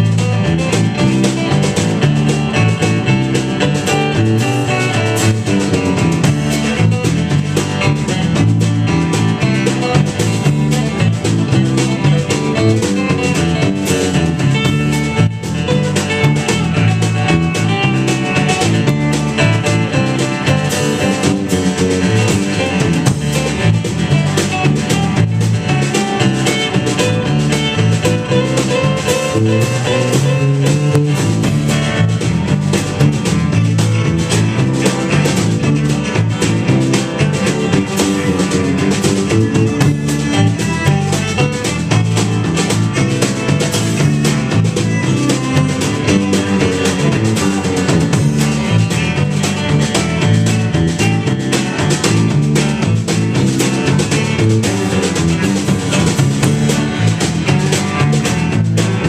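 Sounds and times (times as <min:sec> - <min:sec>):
electric guitar: 0:00.0 - 0:59.0
strummed acoustic guitar: 0:00.0 - 0:59.0.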